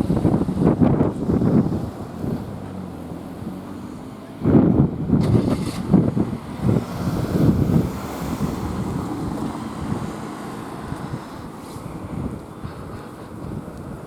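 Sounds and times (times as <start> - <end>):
train rumble: 0.0 - 14.0
wind buffeting microphone: 0.0 - 14.0.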